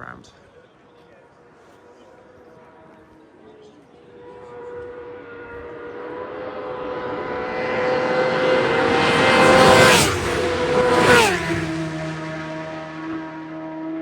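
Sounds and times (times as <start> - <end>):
racing motorcycles passing: 2.6 - 14.0.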